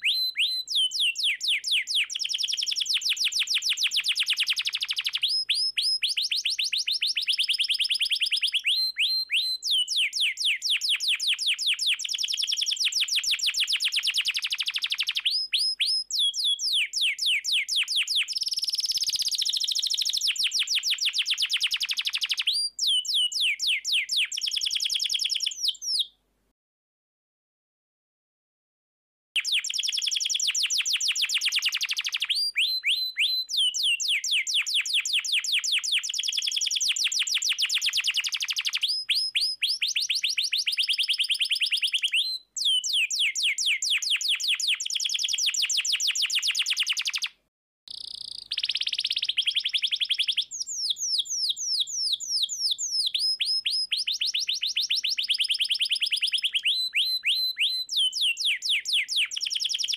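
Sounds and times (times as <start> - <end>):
canary singing trills: 0.0 - 26.1, 29.4 - 47.3, 47.9 - 59.9.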